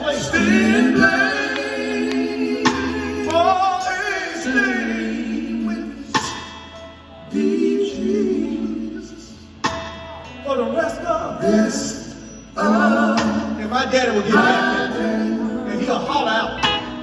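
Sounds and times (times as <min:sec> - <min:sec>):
vocal quartet singing: 0:00.0 - 0:09.8, 0:10.8 - 0:17.0.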